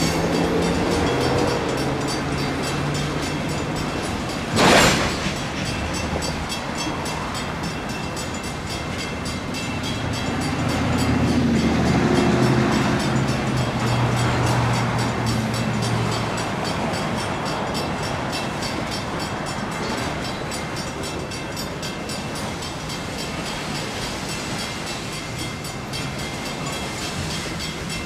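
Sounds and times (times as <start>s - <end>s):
freight train rumbling: 0.0s - 28.0s
railroad crossing bell ringing: 0.0s - 28.0s.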